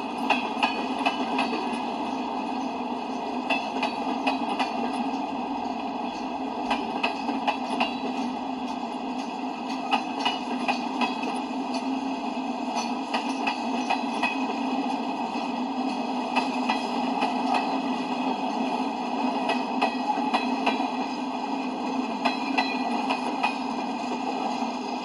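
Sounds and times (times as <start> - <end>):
wheels clanking over rail joints: 0.0 - 12.0, 12.7 - 21.3, 22.0 - 24.6
train wheels rolling on track: 0.0 - 25.0.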